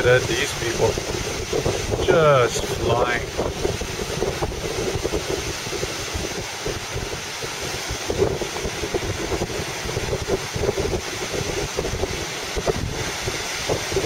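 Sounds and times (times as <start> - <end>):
small waves washing onto sand: 0.0 - 14.0
strong wind on microphone: 0.0 - 14.0.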